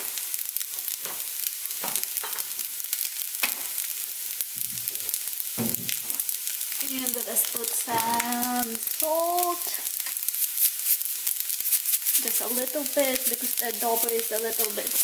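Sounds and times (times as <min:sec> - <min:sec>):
rice sizzling in a frying pan: 0:00.0 - 0:15.0.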